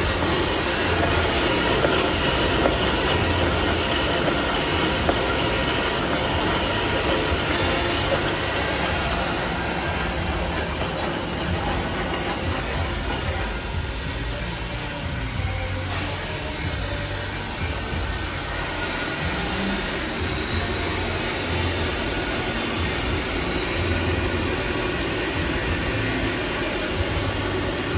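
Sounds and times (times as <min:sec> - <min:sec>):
cutting machine running: 0:00.0 - 0:27.9.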